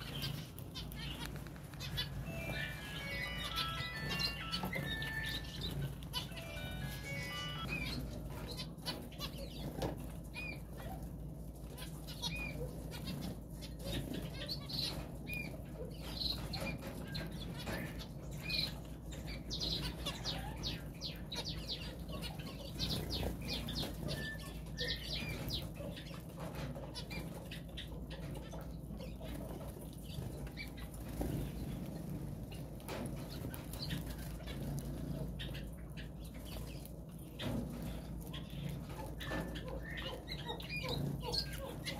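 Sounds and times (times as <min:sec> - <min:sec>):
birds pecking at seed: 0:00.0 - 0:41.9.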